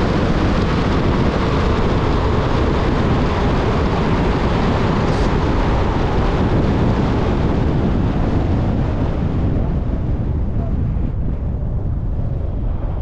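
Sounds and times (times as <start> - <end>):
vehicle driving rumble: 0.0 - 13.0
wind noise: 0.0 - 13.0.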